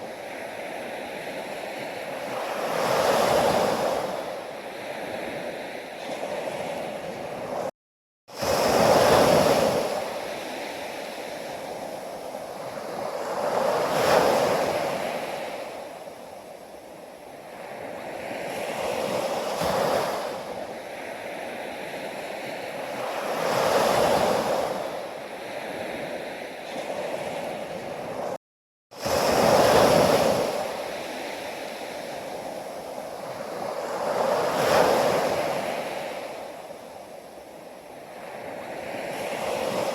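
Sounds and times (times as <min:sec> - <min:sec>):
ocean waves breaking on shore: 0:00.0 - 0:07.7, 0:08.3 - 0:39.9.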